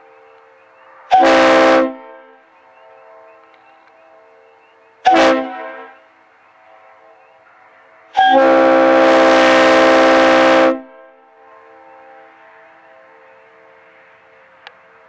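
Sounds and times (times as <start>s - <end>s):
train horn blasts: 0.1s - 14.4s.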